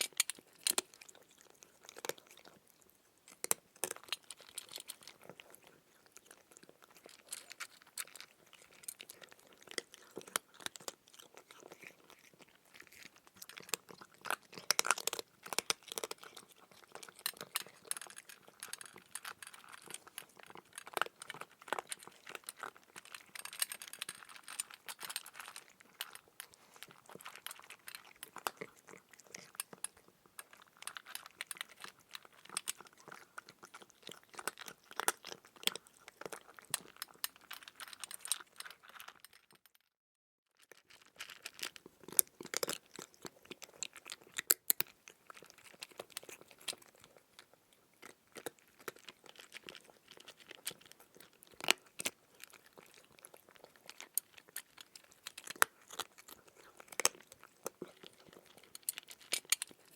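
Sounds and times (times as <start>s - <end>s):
cat chewing and crunching food: 0.0s - 59.9s.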